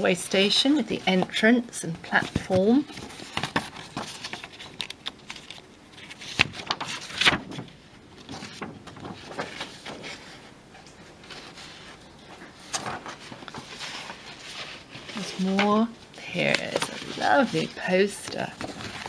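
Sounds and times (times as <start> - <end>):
paper sheet rustling and crinkling: 0.0 - 19.0.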